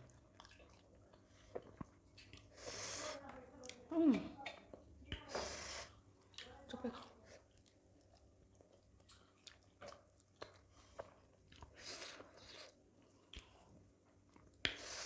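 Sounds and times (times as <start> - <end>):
people chewing food: 0.0 - 15.0.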